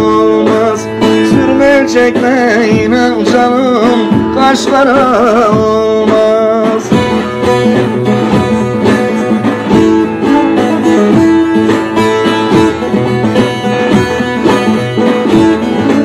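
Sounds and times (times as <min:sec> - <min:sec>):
long-necked lute plucked solo: 0:00.0 - 0:16.0.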